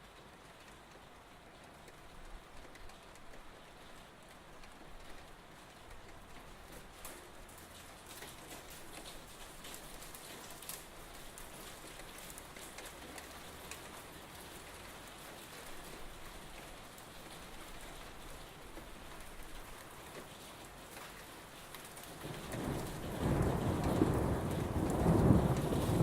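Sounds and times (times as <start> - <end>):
rain pattering on hard surfaces: 0.0 - 26.0.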